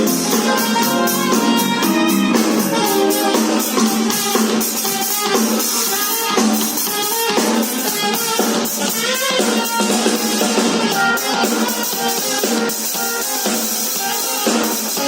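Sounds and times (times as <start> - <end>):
drum-kit beat: 0.0 - 15.0
saxophone melody: 0.0 - 15.0.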